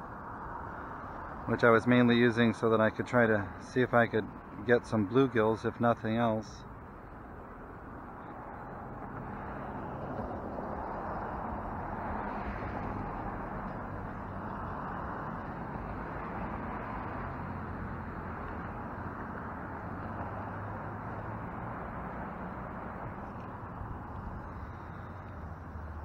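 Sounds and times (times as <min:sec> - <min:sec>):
rushing outdoor background noise: 0:00.0 - 0:26.0.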